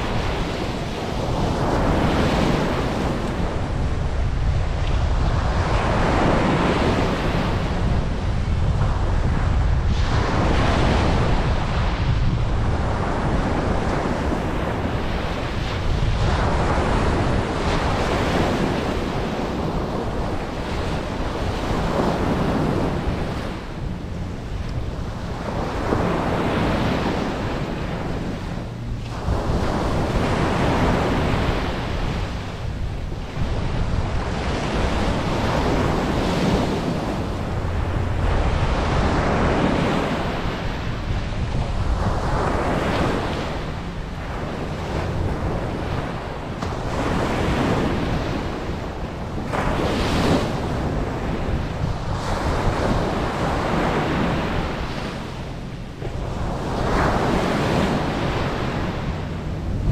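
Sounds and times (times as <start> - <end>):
ocean surf breaking on beach: 0.0 - 59.9
wind rumble on microphone: 0.0 - 59.9.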